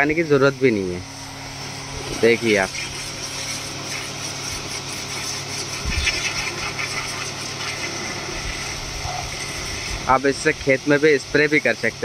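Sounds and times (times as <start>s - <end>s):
washer pump humming: 0.0s - 12.0s
water jet hissing on roof: 1.0s - 12.0s.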